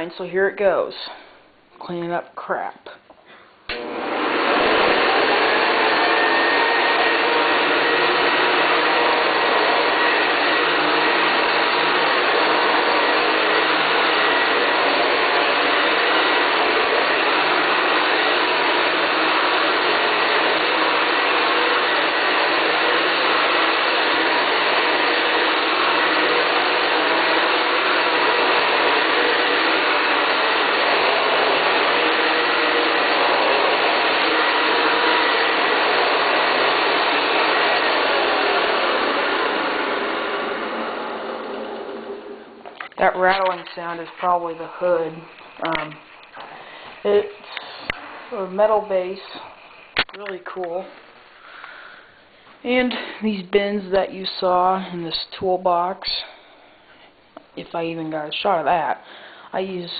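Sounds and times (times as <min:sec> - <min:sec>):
vacuum cleaner motor whining: 0:03.7 - 0:51.9.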